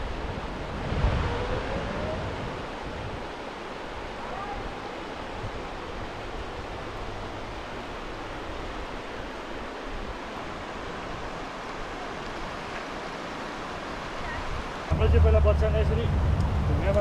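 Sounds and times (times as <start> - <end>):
wind buffeting microphone: 0.0 - 12.7, 14.2 - 17.0
river rushing: 0.0 - 17.0.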